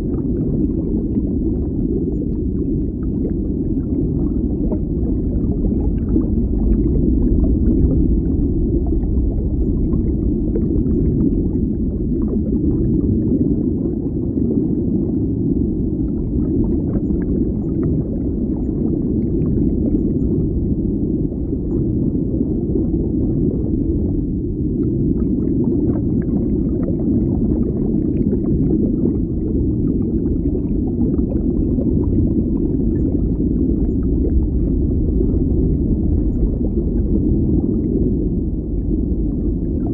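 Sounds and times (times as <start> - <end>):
faint crackles and pops: 0.0 - 39.9
muffled underwater rumble: 0.0 - 39.9.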